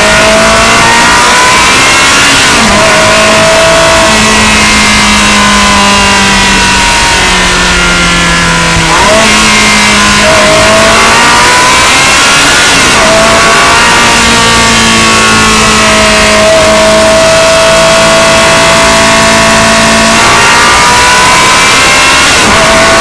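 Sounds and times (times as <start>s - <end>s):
loud sports car engine: 0.0s - 23.0s.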